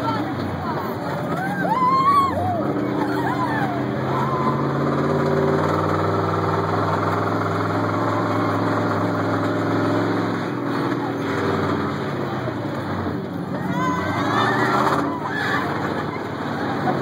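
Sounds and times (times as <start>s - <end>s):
monster truck engine running: 0.0s - 17.0s.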